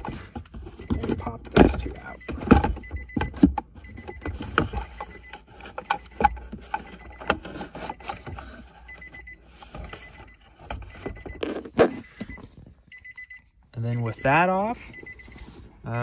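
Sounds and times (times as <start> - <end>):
vehicle warning chime beeping: 0.0 - 16.0.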